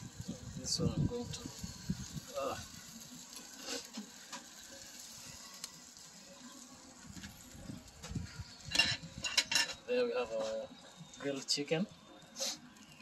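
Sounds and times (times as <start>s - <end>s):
faint sizzling on grill: 0.0s - 13.0s.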